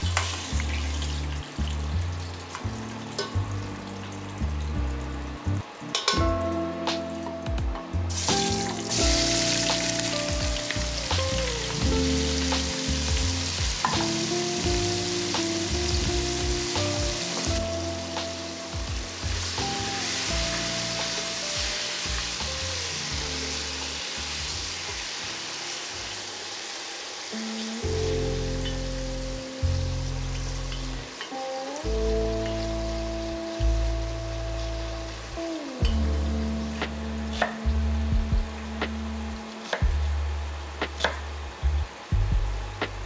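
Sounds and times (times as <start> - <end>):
vegetables sizzling in hot fat: 0.0 - 7.3, 8.0 - 37.8
soft background music: 0.0 - 43.0.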